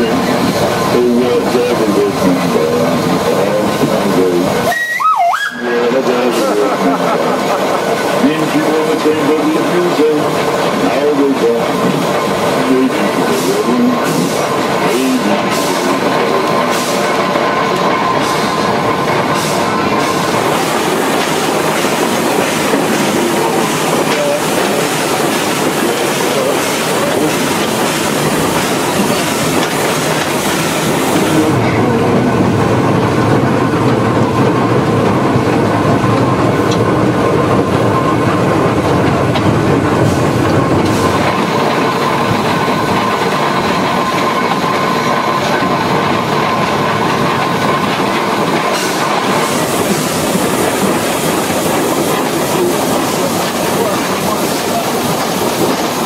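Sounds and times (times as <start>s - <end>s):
steam locomotive clattering on rails: 0.0s - 5.0s, 5.6s - 56.0s.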